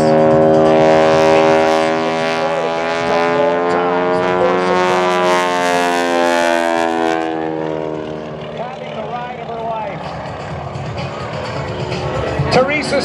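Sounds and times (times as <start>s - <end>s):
radial engine and propeller droning: 0.0s - 13.0s.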